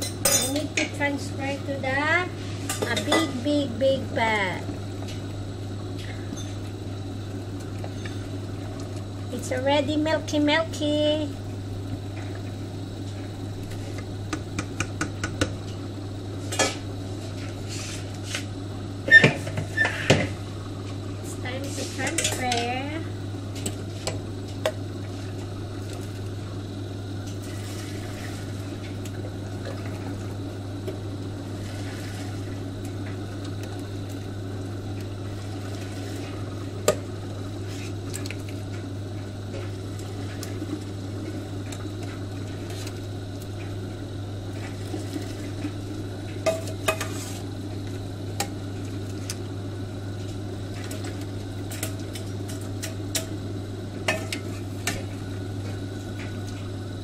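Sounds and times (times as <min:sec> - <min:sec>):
low hum from hob: 0:00.0 - 0:57.0
soup boiling in a pot: 0:00.0 - 0:57.0.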